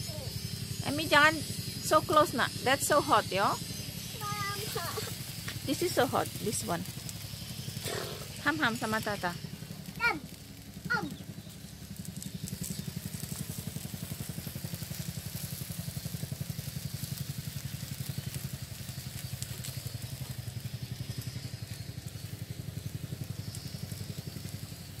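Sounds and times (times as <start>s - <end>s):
engine idling: 0.0s - 25.0s
food sizzling on grill: 0.0s - 25.0s.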